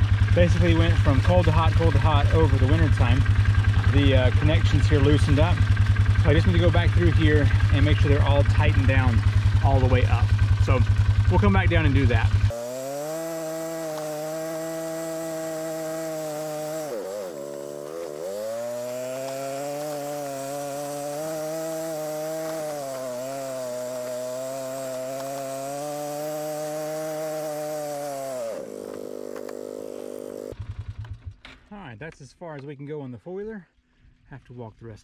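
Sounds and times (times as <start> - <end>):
atv engine running: 0.0 - 31.5.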